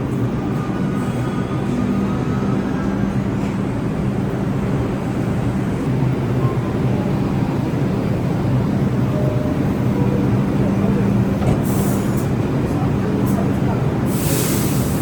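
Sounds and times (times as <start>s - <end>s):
subway train rumbling on tracks: 0.0s - 15.0s.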